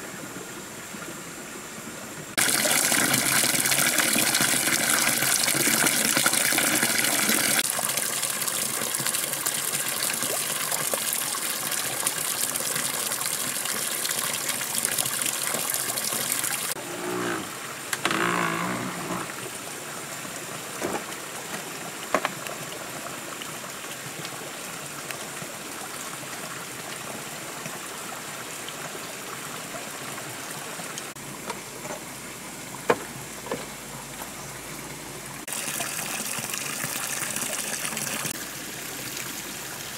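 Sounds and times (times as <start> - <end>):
water pouring and splashing into pool: 2.3 - 39.9.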